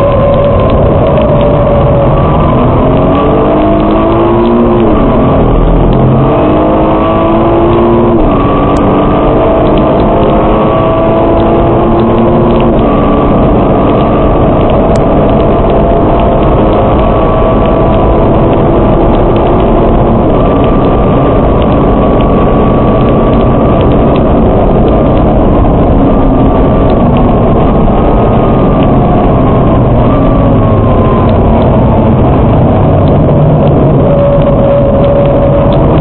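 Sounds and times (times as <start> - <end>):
car engine rumble from cabin: 0.0 - 36.0.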